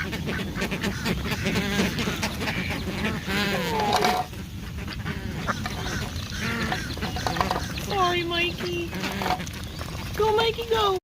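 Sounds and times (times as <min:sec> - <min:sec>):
ducks quacking: 0:00.0 - 0:10.9.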